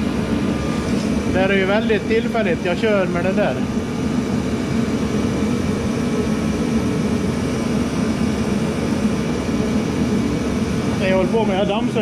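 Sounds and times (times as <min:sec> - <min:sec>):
diesel heater running: 0:00.0 - 0:12.0.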